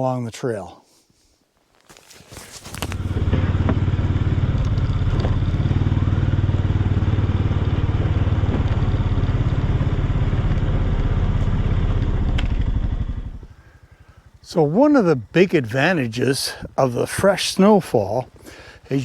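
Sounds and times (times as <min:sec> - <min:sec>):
vehicle engine running: 0:02.6 - 0:19.0.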